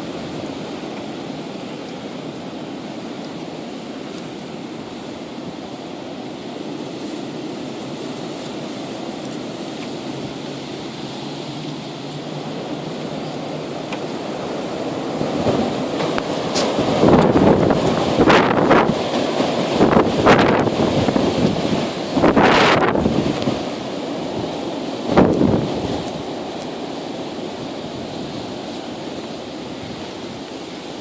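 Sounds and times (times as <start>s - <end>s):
high winds rushing: 0.0s - 31.0s.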